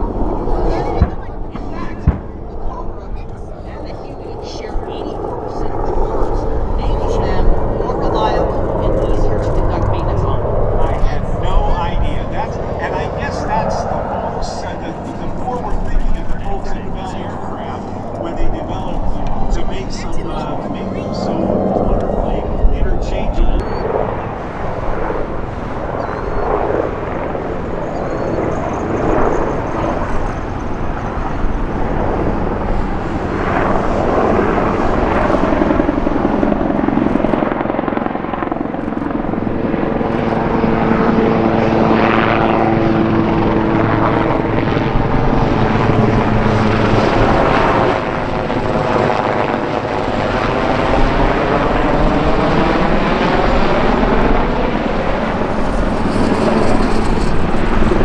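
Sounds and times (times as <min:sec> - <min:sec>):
helicopter engines whining: 0:00.0 - 0:58.0
helicopter rotor beat: 0:00.0 - 0:58.0.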